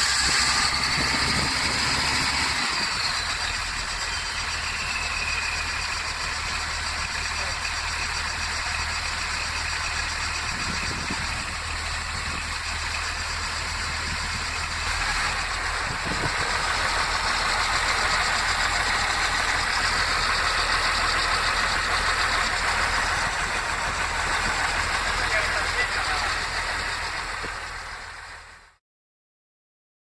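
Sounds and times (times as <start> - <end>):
diesel engine running: 0.0 - 28.8.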